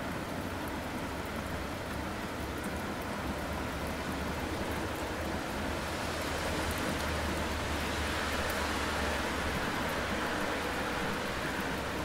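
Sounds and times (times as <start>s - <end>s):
rain on a street: 0.0s - 12.0s.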